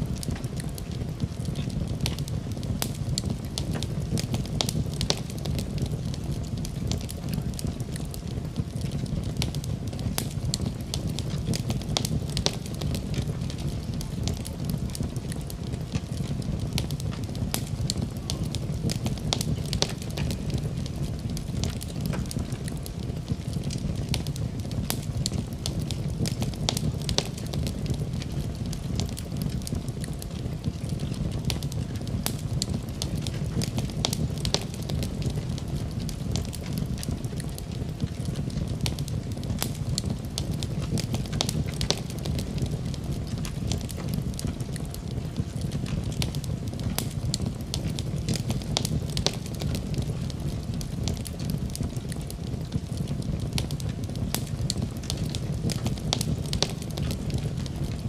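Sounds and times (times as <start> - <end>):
fire crackles and pops: 0.0 - 58.0
low rumble of flames: 0.0 - 58.0.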